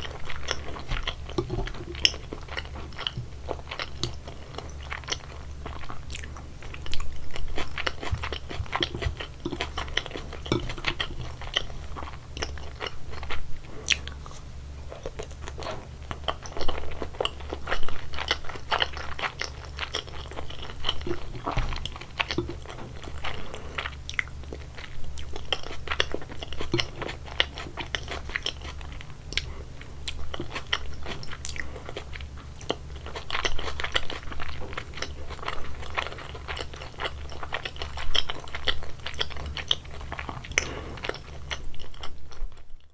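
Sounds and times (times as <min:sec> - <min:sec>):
chewing and biting food: 0:00.0 - 0:42.9
steady low hum: 0:00.0 - 0:42.9.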